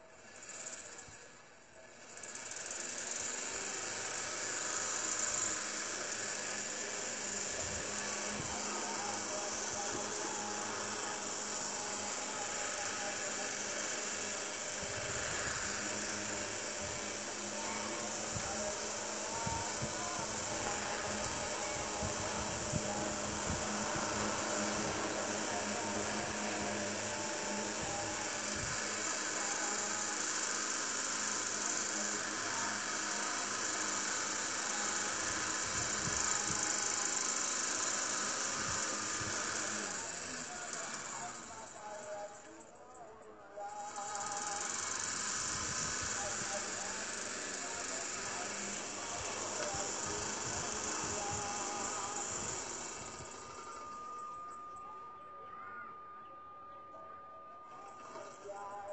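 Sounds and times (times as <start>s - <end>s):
electric fan whirring: 0.0s - 42.8s, 43.4s - 56.3s.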